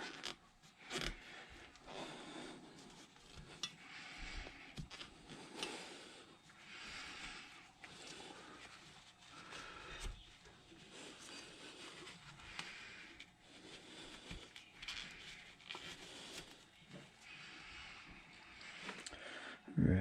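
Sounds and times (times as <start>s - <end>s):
rag rustling: 0.0s - 17.7s.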